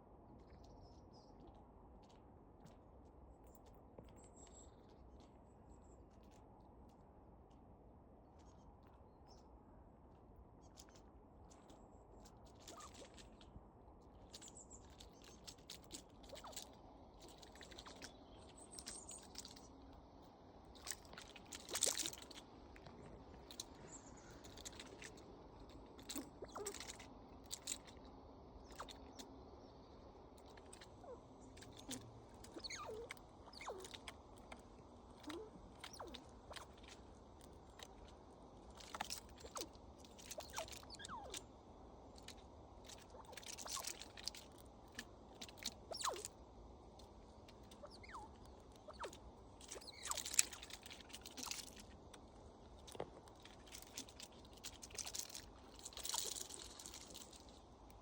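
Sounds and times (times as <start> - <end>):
squirrels clicking and scratching: 10.6 - 41.5, 42.1 - 58.0.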